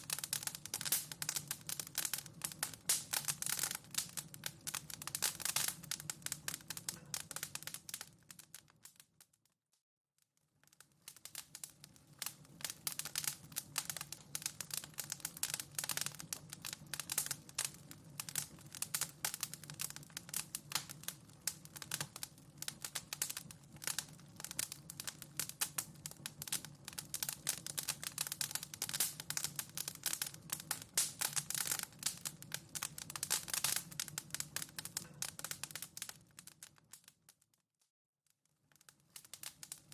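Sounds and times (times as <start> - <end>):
wood fire crackling: 0.0 - 9.5, 10.4 - 37.6, 38.4 - 39.9.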